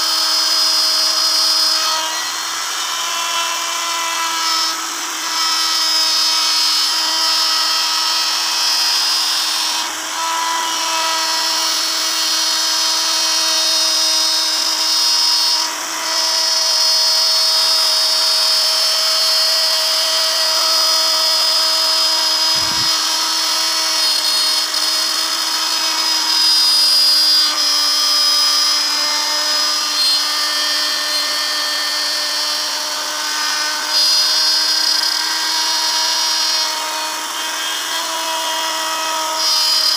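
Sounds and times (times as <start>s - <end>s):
router motor whine cutting wood: 0.0s - 39.9s.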